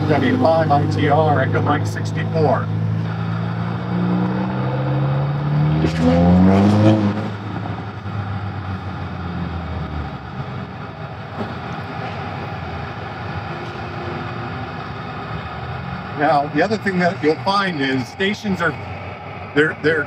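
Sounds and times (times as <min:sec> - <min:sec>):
car engine accelerating: 0:00.0 - 0:20.0
traffic noise rush: 0:00.0 - 0:20.0.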